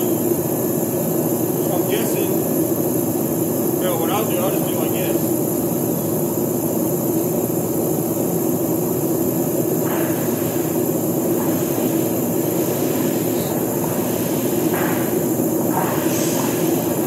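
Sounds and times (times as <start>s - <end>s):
mechanical drone: 0.0s - 17.0s.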